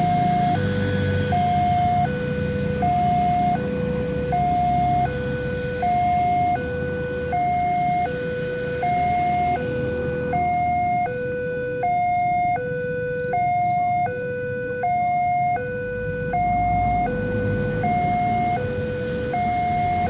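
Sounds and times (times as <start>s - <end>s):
two-tone level-crossing siren: 0.0s - 20.0s.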